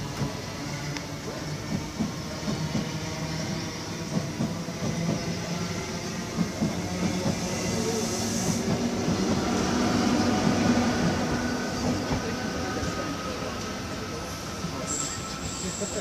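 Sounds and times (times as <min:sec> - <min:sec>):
low train hum: 0:00.0 - 0:16.0
train wheels rumbling on rails: 0:00.0 - 0:16.0.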